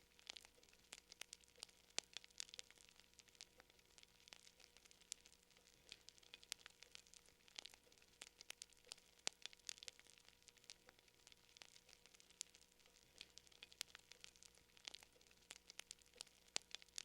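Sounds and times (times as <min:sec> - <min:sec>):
fire crackling faintly: 0:00.0 - 0:17.0.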